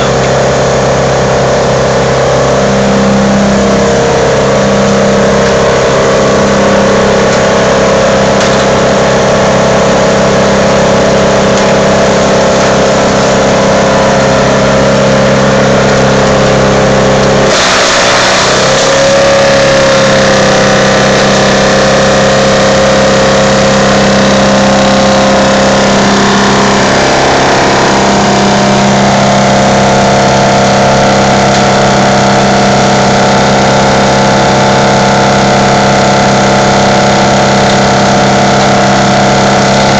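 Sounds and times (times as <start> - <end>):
wood chipper engine drone: 0.0 - 39.9
wood crunching in chipper: 0.0 - 39.9.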